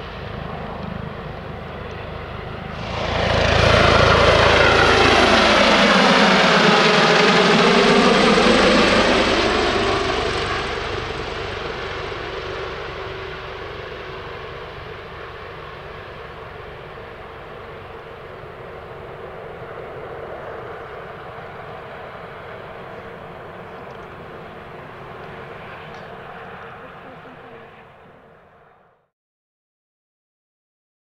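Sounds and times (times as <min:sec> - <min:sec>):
helicopter rotor beat: 0:00.0 - 0:28.3
helicopter engine hum: 0:00.0 - 0:28.6.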